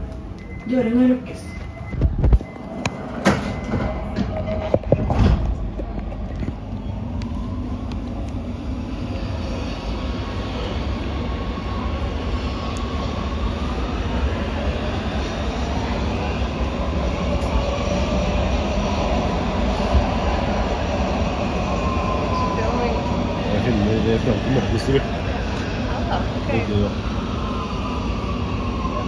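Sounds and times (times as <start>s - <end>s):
train motor whine: 0.0s - 29.0s
train wheels rumbling on rails: 0.0s - 29.0s.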